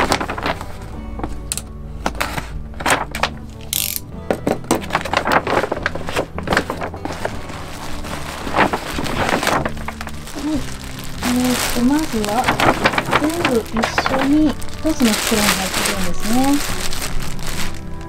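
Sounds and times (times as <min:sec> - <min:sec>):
background music: 0:00.0 - 0:18.0
paper and plastic bags crinkling: 0:00.0 - 0:18.0.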